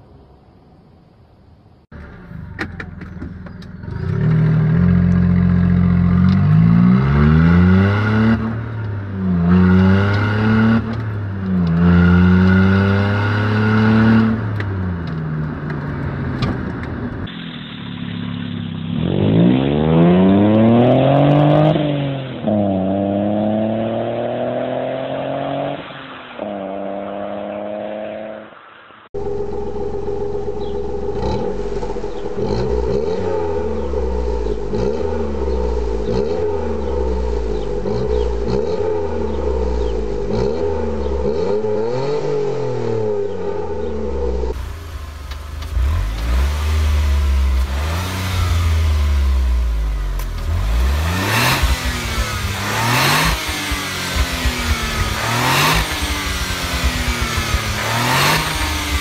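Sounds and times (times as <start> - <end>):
car engine running steadily: 0.0 - 19.2, 29.2 - 59.0
car engine accelerating through gears: 2.0 - 17.3, 18.1 - 28.5, 29.2 - 59.0.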